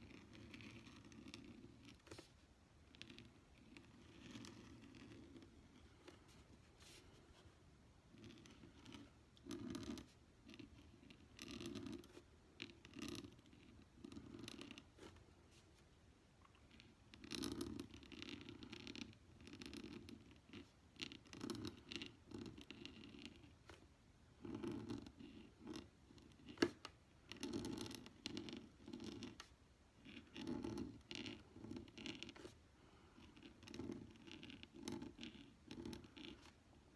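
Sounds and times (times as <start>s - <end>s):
pen nib scratching paper: 0.0s - 15.8s, 16.6s - 36.9s.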